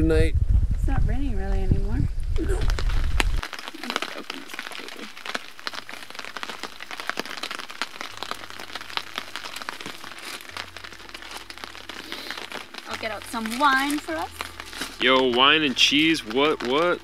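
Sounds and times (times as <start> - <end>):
light rain hiss: 0.8 - 17.0
raindrops tapping on tent fabric: 1.5 - 17.0.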